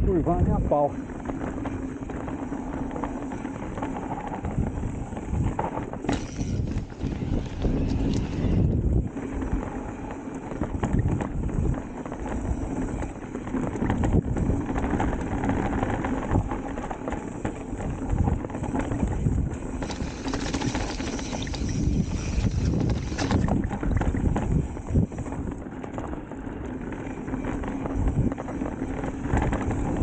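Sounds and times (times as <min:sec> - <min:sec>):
bike tyres rumbling over dirt: 0:00.0 - 0:30.0
wind buffeting microphone: 0:00.0 - 0:30.0
bike knocking and rattling: 0:00.2 - 0:30.0.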